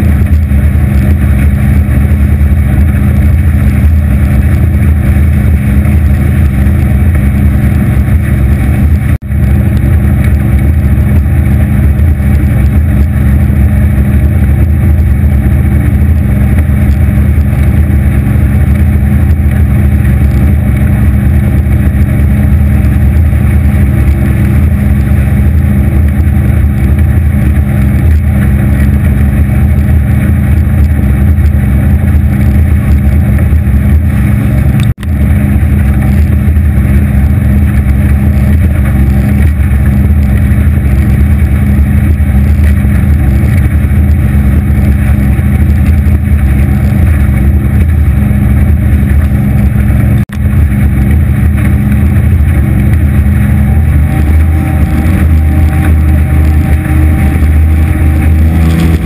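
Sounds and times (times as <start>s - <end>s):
outboard motor boat droning: 0.0s - 59.0s.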